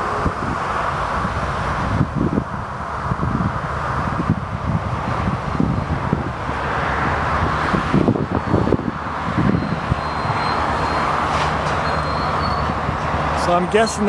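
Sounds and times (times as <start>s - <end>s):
passing vehicles rumble: 0.0s - 14.0s
wind buffeting microphone: 0.0s - 14.0s.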